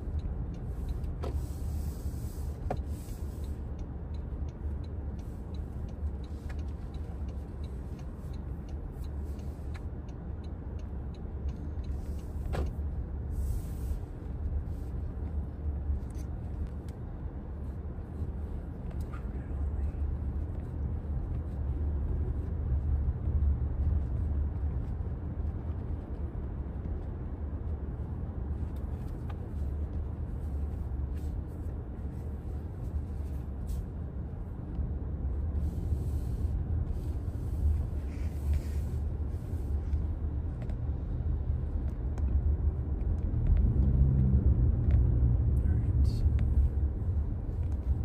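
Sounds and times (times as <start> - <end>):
road rumble inside car: 0.0 - 48.0.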